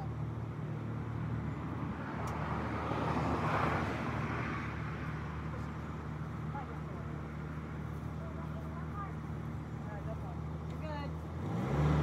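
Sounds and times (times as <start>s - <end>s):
car passing: 0.0s - 12.0s
low engine hum: 0.0s - 12.0s.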